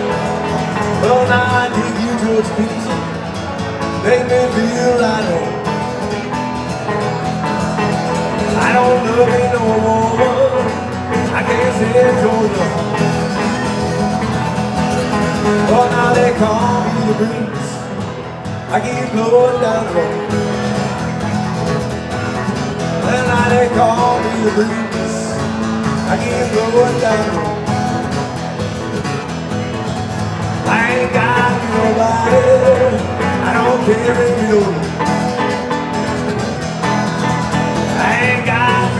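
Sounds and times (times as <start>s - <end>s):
acoustic guitars playing country music: 0.0s - 38.9s.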